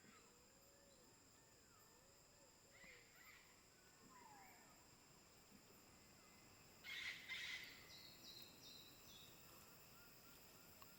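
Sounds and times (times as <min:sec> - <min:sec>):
faint birdsong: 0:00.0 - 0:10.9
high insect drone: 0:00.0 - 0:10.9.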